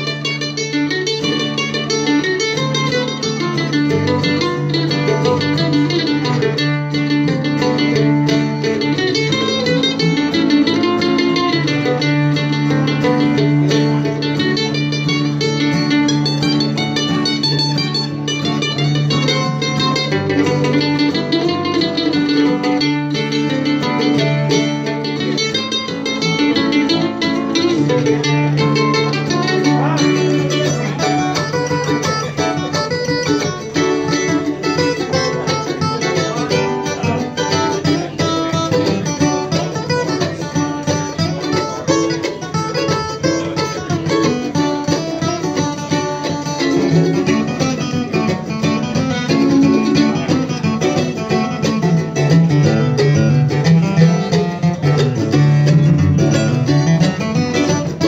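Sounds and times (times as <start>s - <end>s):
acoustic guitar strumming: 0.0s - 58.0s
mandolin picking: 0.0s - 58.0s.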